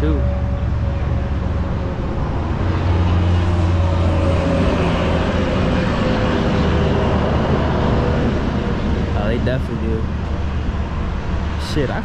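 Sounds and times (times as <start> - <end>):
highway traffic rumble: 0.0 - 12.0
vehicle engine drone: 0.0 - 12.0.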